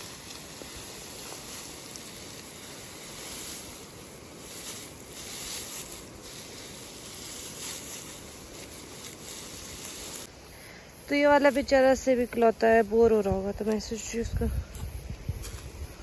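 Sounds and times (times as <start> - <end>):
dry grass rustling and crackling: 0.0 - 10.5, 11.1 - 16.0.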